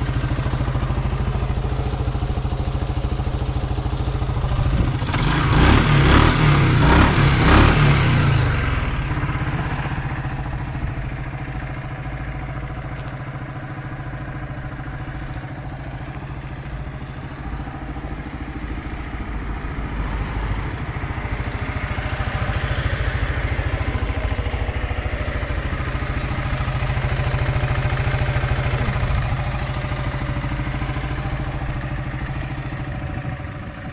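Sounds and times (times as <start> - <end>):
scooter engine revving and idling: 0.0 - 33.9.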